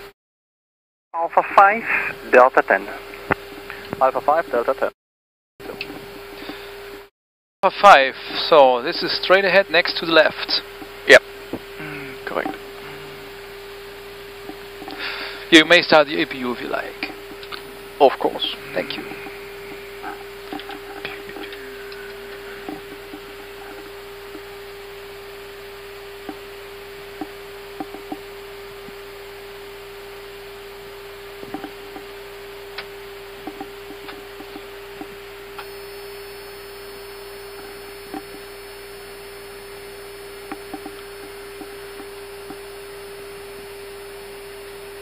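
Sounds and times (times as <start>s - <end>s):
steady electrical hum: 5.6s - 45.0s.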